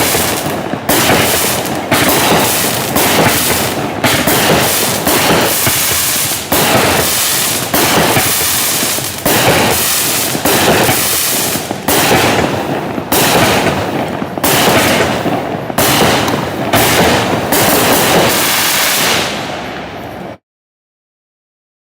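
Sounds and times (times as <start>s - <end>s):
aerial fireworks breaks crackling: 0.0s - 20.4s.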